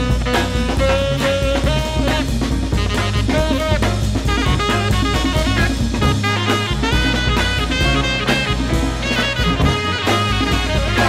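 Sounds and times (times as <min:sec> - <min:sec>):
brass melody: 0:00.0 - 0:11.0
drum kit beating: 0:00.0 - 0:11.0.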